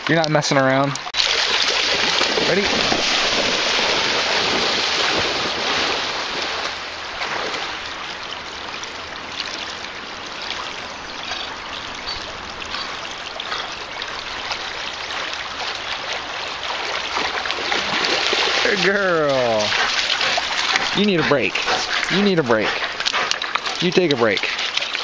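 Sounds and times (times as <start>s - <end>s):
creek water rushing: 1.0s - 25.0s
dog splashing through water: 1.2s - 25.0s.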